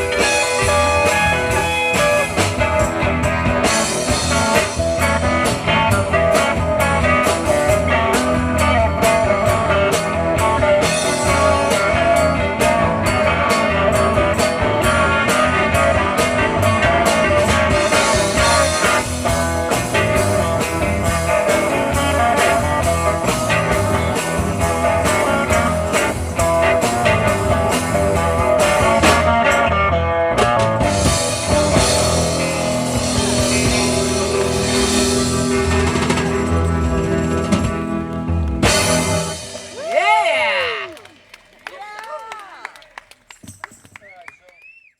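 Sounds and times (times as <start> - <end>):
drum kit: 0.0 - 40.5
bass guitar: 0.0 - 41.1
electric guitars: 0.0 - 41.7
keyboards: 0.0 - 44.6.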